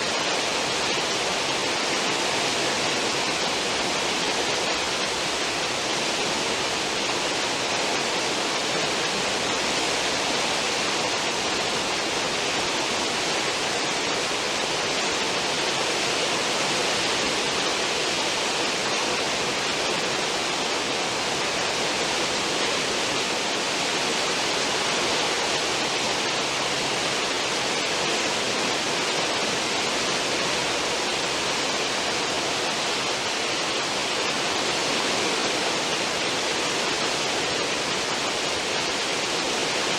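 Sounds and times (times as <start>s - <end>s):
churning seawater rushing: 0.0s - 39.9s.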